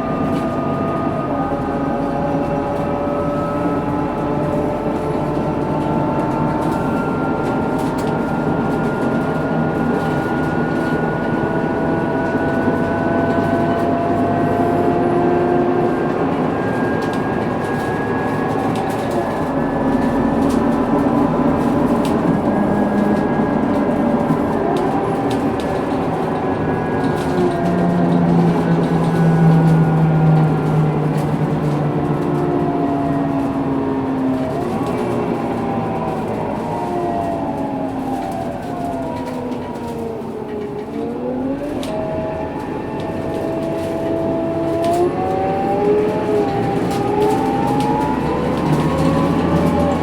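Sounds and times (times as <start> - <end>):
bus differential gear whine: 0.0 - 50.0
low diesel engine drone: 0.0 - 50.0.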